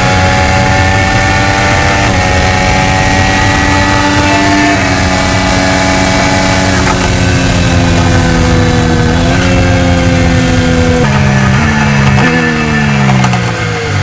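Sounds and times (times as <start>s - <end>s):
race car engine at high revs: 0.0s - 14.0s
wind and tyre noise: 0.0s - 14.0s.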